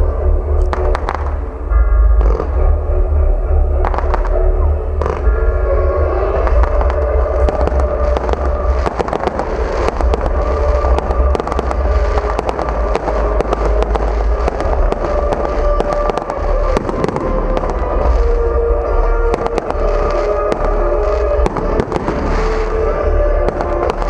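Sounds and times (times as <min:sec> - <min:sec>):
low rumble: 0:00.0 - 0:24.0
fireworks crackling and popping: 0:00.6 - 0:01.5, 0:03.8 - 0:05.3, 0:06.3 - 0:24.0.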